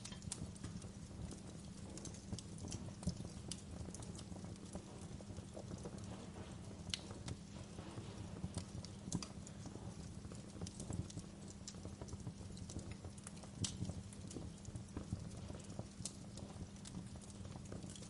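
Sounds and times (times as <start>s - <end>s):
low fire rumble: 0.0s - 18.0s
wood fire crackling and popping: 0.0s - 18.0s.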